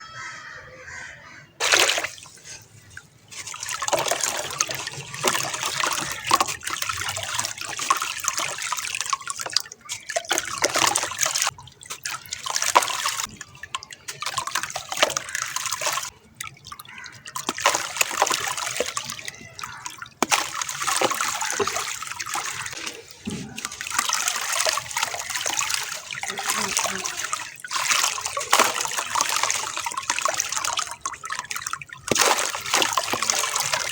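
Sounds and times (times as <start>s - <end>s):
chunks fizzing and crackling in water: 1.6s - 33.9s
trickling water: 1.6s - 33.9s.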